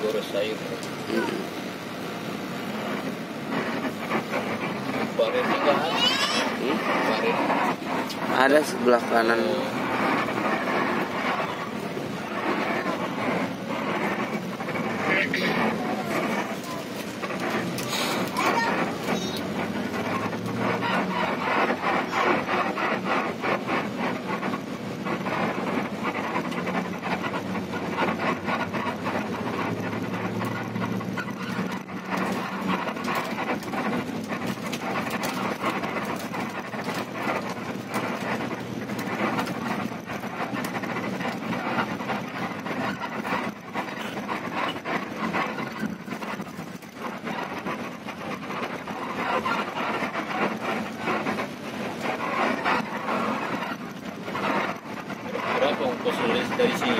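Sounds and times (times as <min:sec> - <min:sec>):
bus engine drone: 0:00.0 - 0:56.9
road noise: 0:00.0 - 0:56.9.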